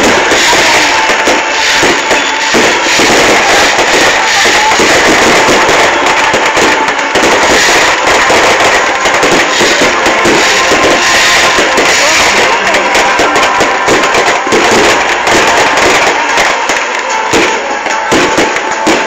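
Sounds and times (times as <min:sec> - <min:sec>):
fireworks bangs and crackling: 0:00.0 - 0:19.0
music playing: 0:00.0 - 0:19.0.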